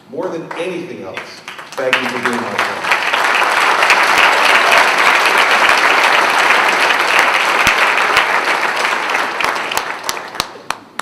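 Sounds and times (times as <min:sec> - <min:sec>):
audience applauding: 0:01.1 - 0:11.0.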